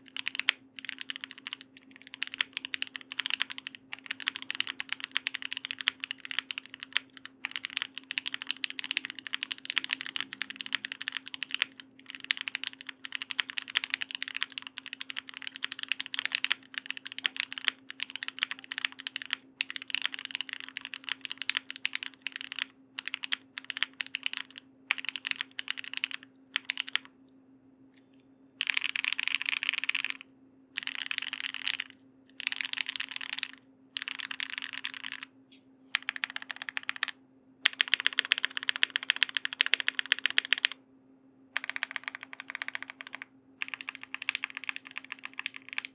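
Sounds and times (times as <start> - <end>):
fast typing on mechanical keyboard: 0.0 - 27.1, 28.6 - 30.2, 30.8 - 35.3, 35.9 - 40.8, 41.6 - 45.9.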